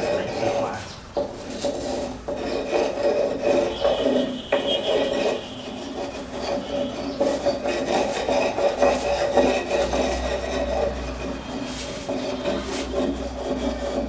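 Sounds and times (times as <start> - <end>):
stone grinding on cement: 0.0 - 14.0.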